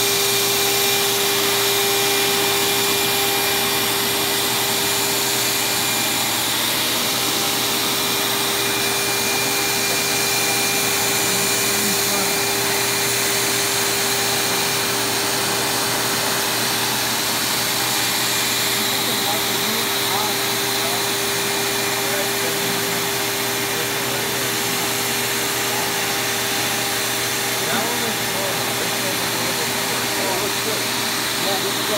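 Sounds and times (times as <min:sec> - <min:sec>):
dust extraction air rush: 0:00.0 - 0:31.9
spindle whine: 0:00.0 - 0:31.9.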